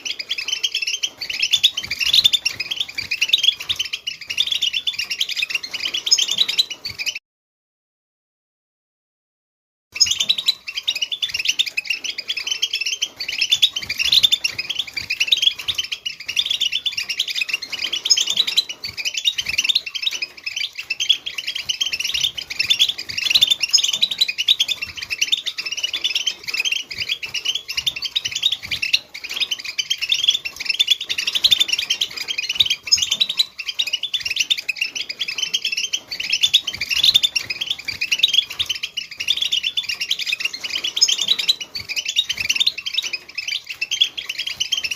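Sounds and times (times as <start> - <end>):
flock of finches twittering: 0.0 - 7.2, 10.0 - 44.9.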